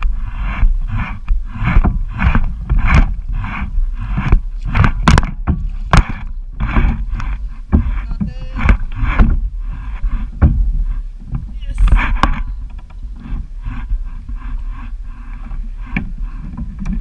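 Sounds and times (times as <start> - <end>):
paddle swishing water: 0.0 - 17.0
wind rumble on microphone: 0.0 - 17.0
sharp knocks: 0.5 - 17.0.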